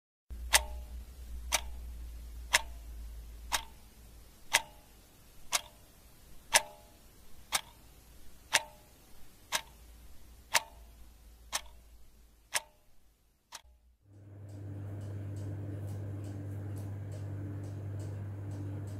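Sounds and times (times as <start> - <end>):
pendulum clocks ticking: 0.3 - 13.8, 14.4 - 18.9.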